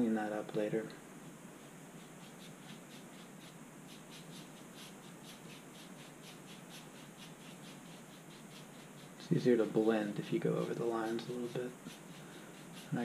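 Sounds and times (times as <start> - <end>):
paintbrush scratching on canvas: 1.5 - 13.0.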